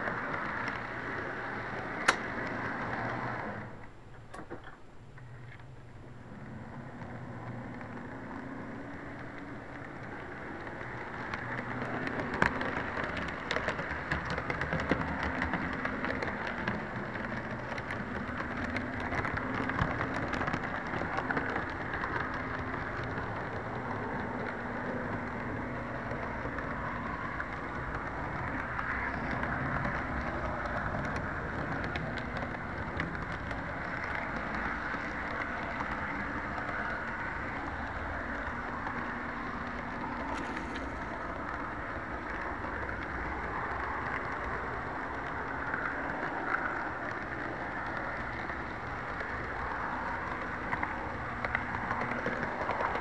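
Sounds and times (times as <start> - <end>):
model train rattling on track: 0.0 - 4.8, 5.5 - 53.0.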